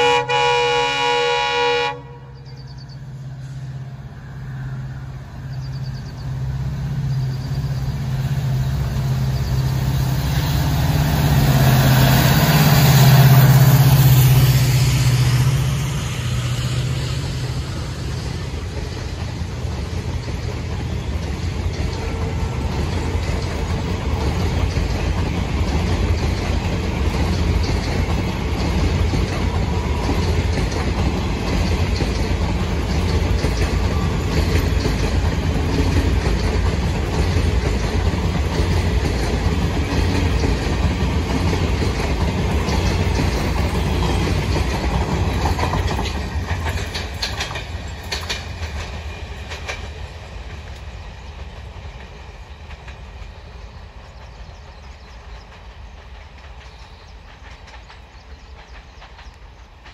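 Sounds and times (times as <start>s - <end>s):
train wheels rumbling and clacking: 0.0s - 59.9s.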